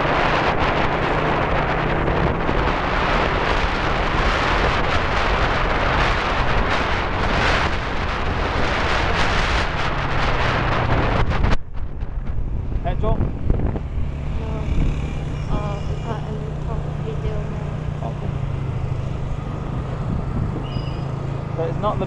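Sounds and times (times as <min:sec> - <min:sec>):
low engine hum: 0:00.0 - 0:22.0
wind rushing over microphone: 0:00.0 - 0:22.0.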